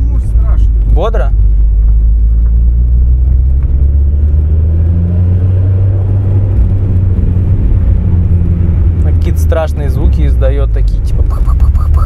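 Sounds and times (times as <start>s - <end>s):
car engine drone from cabin: 0.0s - 12.0s.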